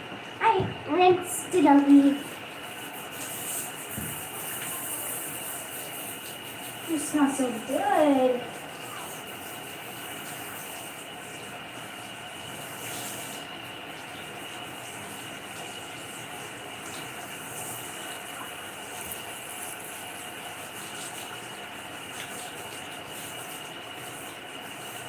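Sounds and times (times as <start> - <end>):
shower water spraying: 0.0 - 25.0.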